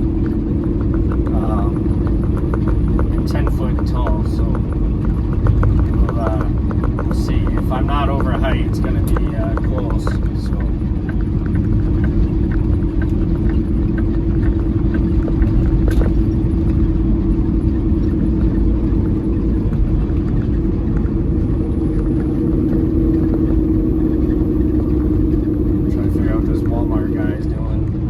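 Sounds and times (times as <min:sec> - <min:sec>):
diesel truck engine drone: 0:00.0 - 0:28.0
faint ticking: 0:00.0 - 0:28.0
road noise: 0:00.0 - 0:28.0.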